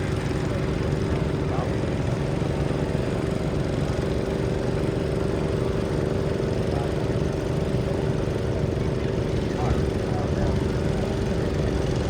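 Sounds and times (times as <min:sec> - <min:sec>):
garden tractor engine at high revs: 0:00.0 - 0:12.0.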